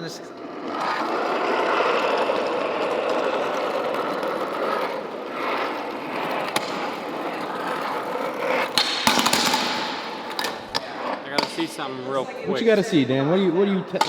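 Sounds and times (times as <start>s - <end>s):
metal skateboard wheels rolling: 0.0s - 12.1s.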